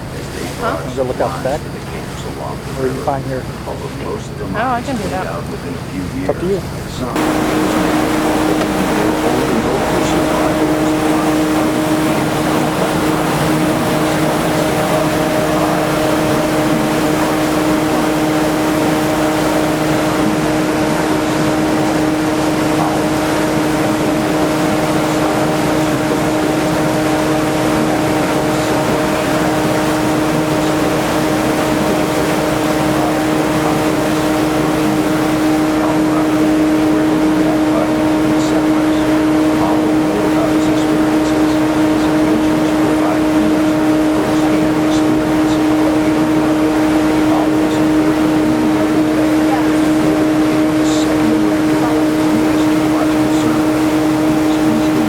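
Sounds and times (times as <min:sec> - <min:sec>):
boat engine humming: 0:00.0 - 0:55.0
rushing wind and water: 0:00.0 - 0:55.0.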